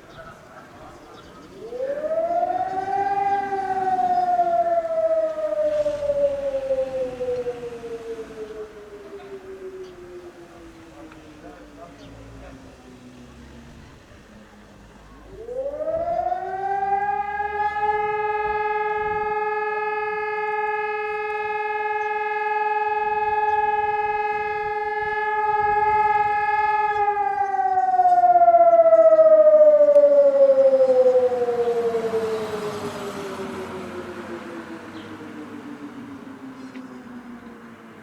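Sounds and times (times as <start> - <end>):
motor-driven warning siren: 0.0 - 38.0.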